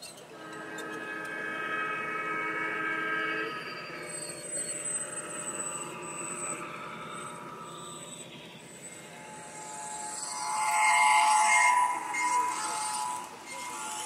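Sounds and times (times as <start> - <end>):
model train running with high tone: 0.0 - 14.0.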